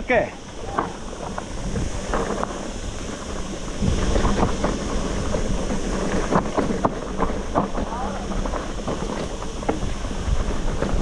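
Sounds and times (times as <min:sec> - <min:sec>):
bike rattles and knocks: 0:00.0 - 0:11.0
bike tyres rumbling on gravel: 0:00.0 - 0:11.0
wind buffeting microphone: 0:00.0 - 0:11.0.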